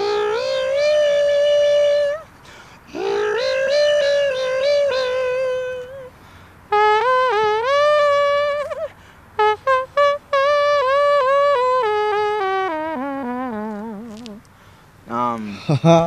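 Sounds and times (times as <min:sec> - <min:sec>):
vocal trumpet imitation: 0:00.0 - 0:02.3, 0:02.9 - 0:14.5.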